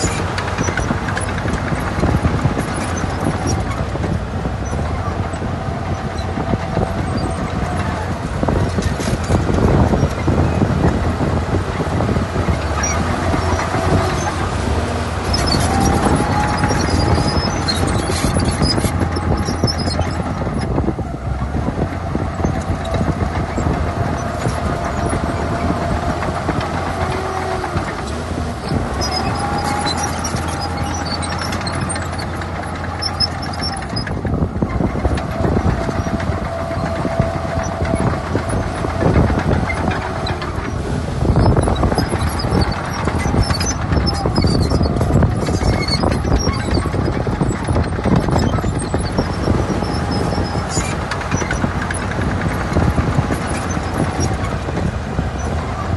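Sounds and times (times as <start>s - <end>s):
crawler tracks squealing: 0.0s - 55.9s
low diesel engine drone: 0.0s - 55.9s.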